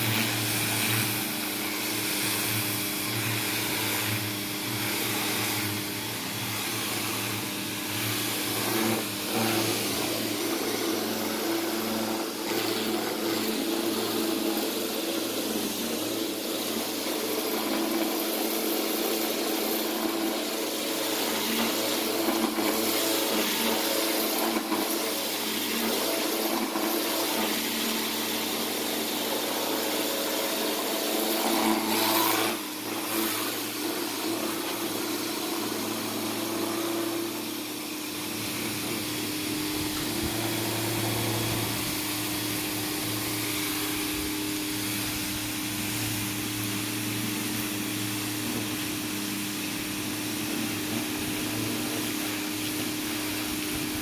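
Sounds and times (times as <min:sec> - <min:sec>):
high-pressure water jet hissing: 0:00.0 - 0:35.7, 0:36.3 - 0:54.0
pressure washer motor humming: 0:00.0 - 0:54.0.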